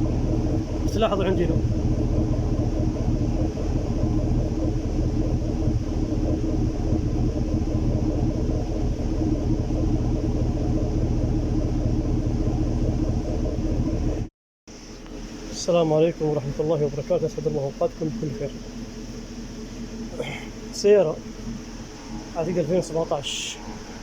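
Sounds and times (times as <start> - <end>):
pickup engine idling unevenly: 0.0 - 24.0.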